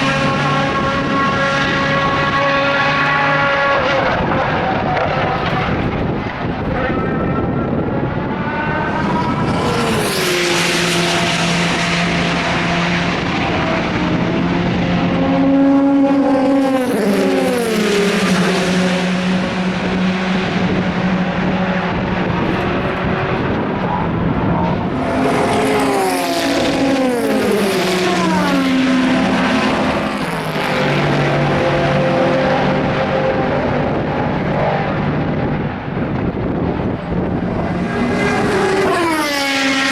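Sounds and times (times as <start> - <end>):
race cars passing at speed: 0.0 - 39.9.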